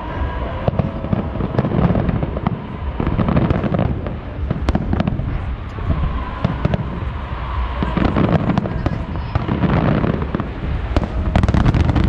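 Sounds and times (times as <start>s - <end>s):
fireworks booming and crackling: 0.0s - 12.0s
low rumble: 0.0s - 12.0s.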